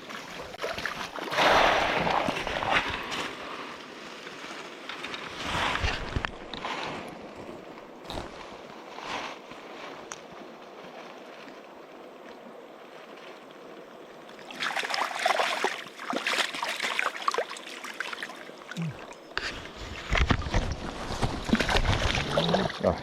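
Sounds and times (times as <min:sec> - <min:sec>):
river water running: 0:00.0 - 0:23.0
water splashing and sloshing: 0:00.0 - 0:23.0.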